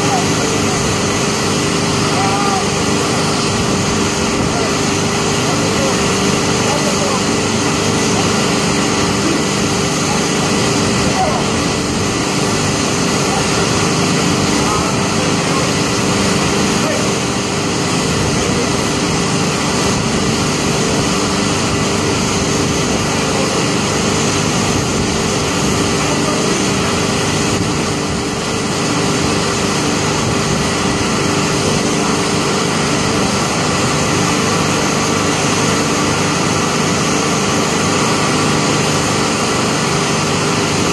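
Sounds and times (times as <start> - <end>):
small petrol engines running: 0.0 - 40.9.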